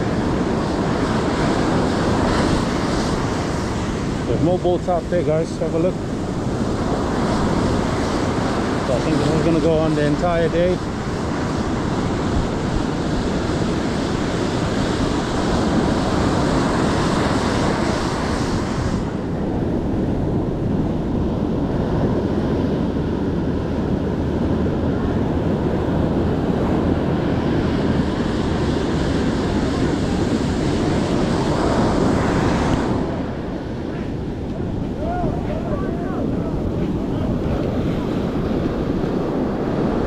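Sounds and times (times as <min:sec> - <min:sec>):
ocean surf washing ashore: 0:00.0 - 0:40.0
wind rumbling on microphone: 0:00.0 - 0:40.0.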